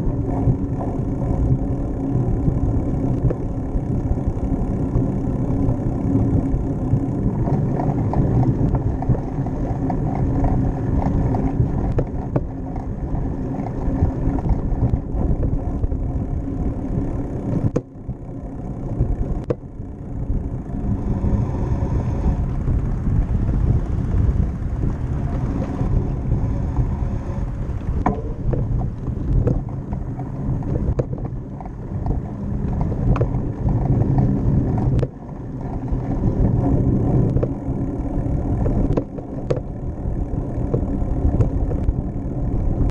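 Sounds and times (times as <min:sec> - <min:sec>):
wind and tyre rumble: 0:00.0 - 0:42.9.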